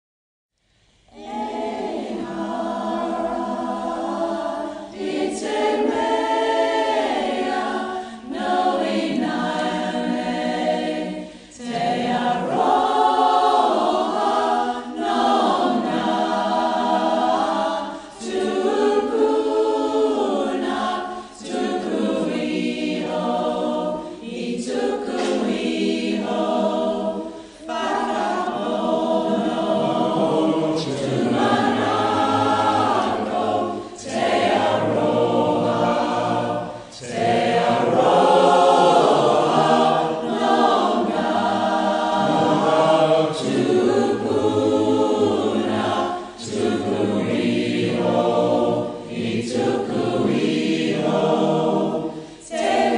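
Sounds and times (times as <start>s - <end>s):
choir singing a cappella: 0.7s - 52.9s.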